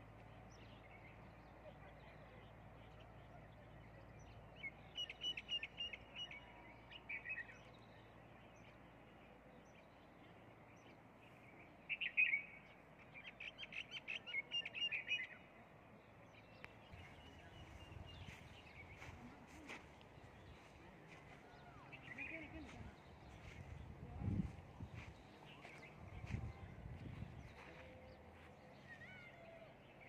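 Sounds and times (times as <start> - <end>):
faint outdoor background: 0.0 - 30.0
songbird chirping: 0.0 - 30.0.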